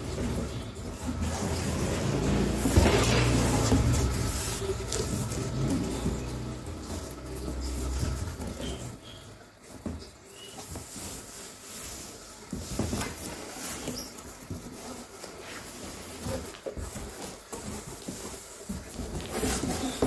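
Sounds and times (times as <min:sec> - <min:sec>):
cardboard and plastic wrap rustling: 0:00.0 - 0:20.0.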